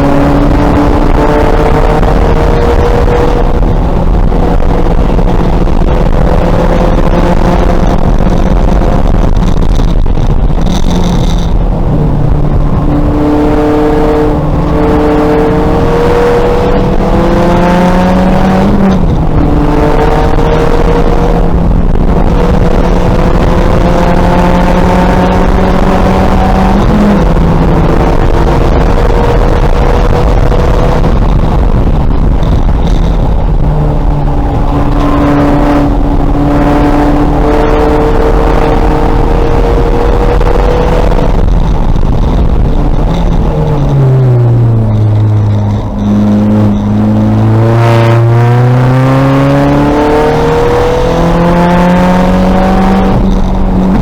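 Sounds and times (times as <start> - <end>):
race car engine at high revs: 0.0 - 54.0
road and wind noise: 0.0 - 54.0.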